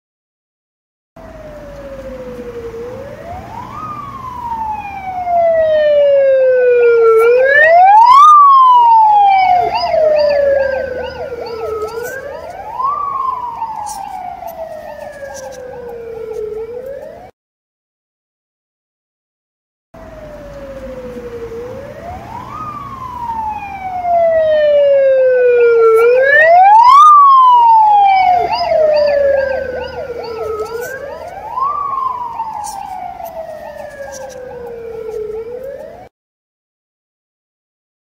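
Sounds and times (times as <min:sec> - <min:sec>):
ambulance siren wailing: 0:01.2 - 0:17.4, 0:20.0 - 0:36.1.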